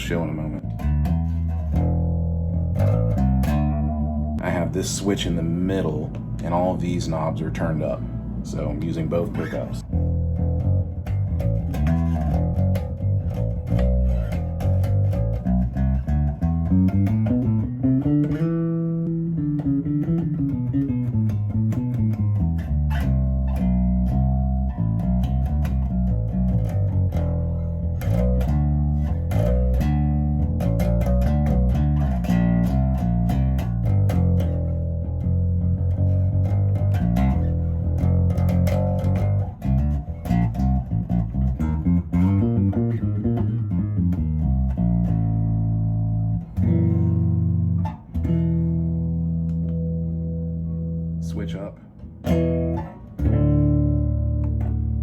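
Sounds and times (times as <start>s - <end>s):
electric bass plucked notes: 0.0s - 55.0s.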